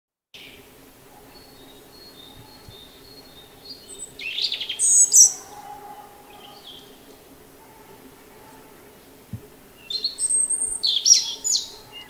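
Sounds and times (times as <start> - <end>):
robin singing: 0.4 - 12.0.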